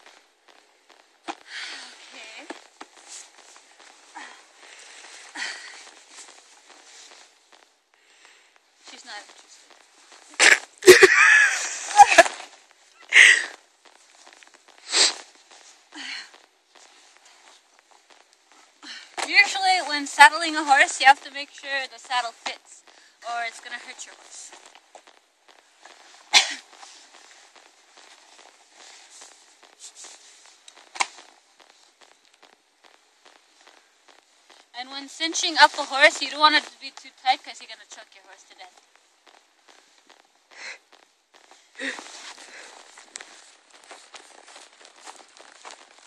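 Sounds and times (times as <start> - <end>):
footsteps crunching in snow: 0.0 - 46.0
rustling: 0.0 - 46.0.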